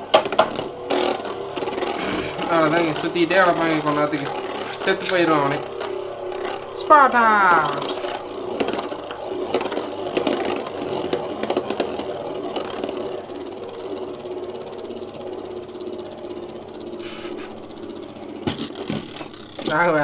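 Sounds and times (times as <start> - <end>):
spinning top whir: 0.0 - 20.0.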